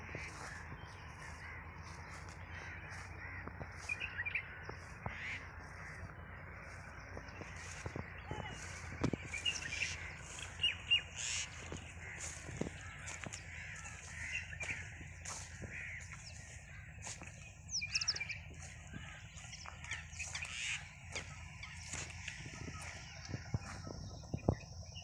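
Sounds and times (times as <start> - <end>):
birds chirping in chorus: 0.0 - 25.0
crows cawing: 0.0 - 25.0.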